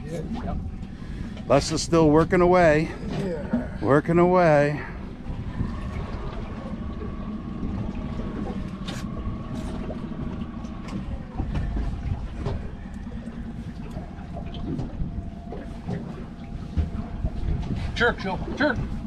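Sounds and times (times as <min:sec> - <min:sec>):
boat engine running: 0:00.0 - 0:19.0
water noise: 0:00.0 - 0:19.0
wind: 0:00.0 - 0:19.0.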